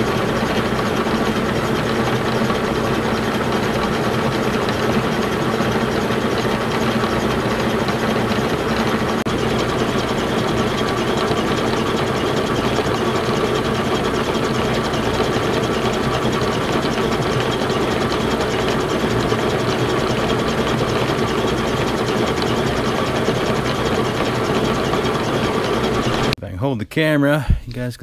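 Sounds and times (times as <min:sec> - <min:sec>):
milling machine cutting steel: 0:00.0 - 0:26.4.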